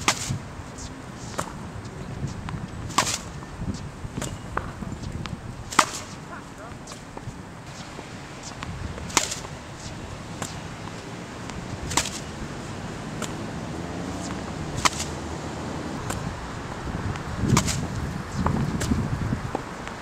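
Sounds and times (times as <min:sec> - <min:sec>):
racket hitting tennis balls: 0:00.0 - 0:20.0.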